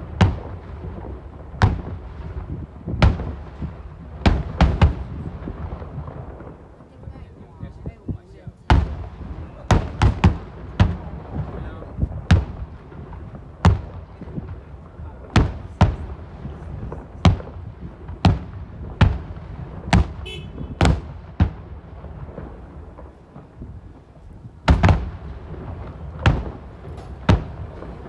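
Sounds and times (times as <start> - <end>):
fireworks booming overhead: 0.0 - 28.0
low rumble of fireworks display: 0.0 - 28.0.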